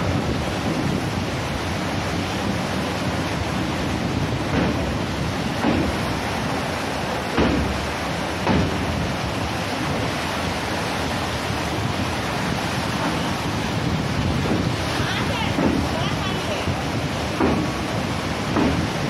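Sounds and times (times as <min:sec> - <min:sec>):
rough sea surging: 0:00.0 - 0:19.0
wind rushing over microphone: 0:00.0 - 0:19.0.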